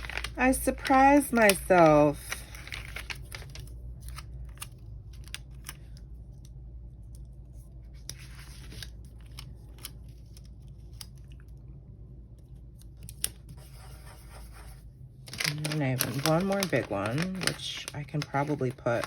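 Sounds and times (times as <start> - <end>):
paper rustling: 0.0 - 6.0, 7.6 - 11.2, 13.0 - 19.0.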